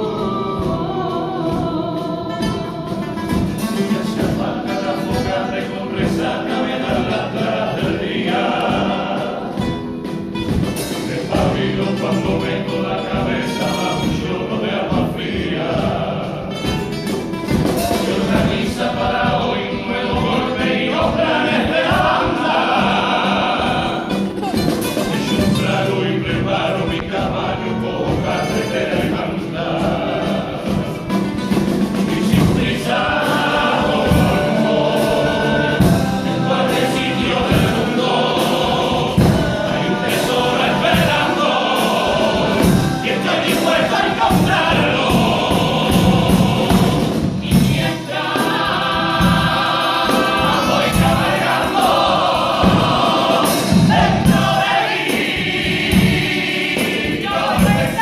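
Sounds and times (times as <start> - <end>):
group of voices singing: 0.0 - 58.0
percussive beat: 0.0 - 58.0.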